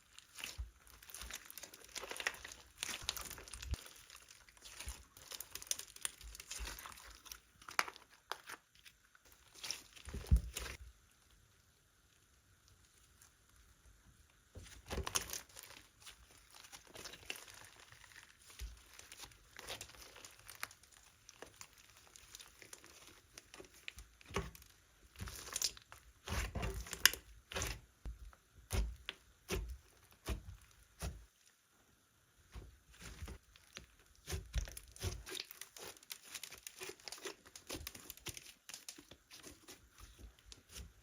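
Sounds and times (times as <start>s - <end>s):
slime crackling and popping: 0.0s - 10.8s, 14.6s - 31.5s, 32.9s - 40.9s.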